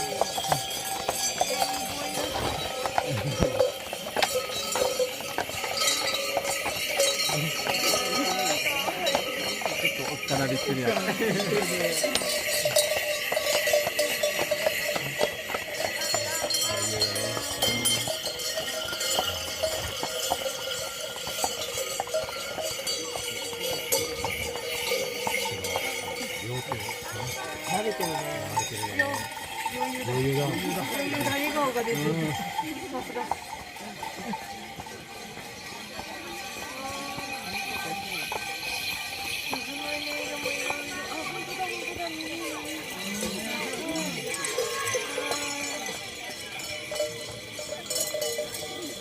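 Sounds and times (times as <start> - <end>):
harness bells jingling: 0.0 - 49.0
hoof clops: 0.0 - 49.0.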